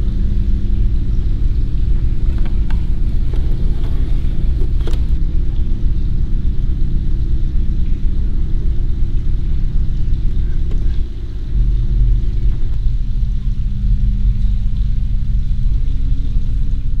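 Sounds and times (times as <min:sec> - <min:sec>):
loud low rumble: 0:00.0 - 0:17.0.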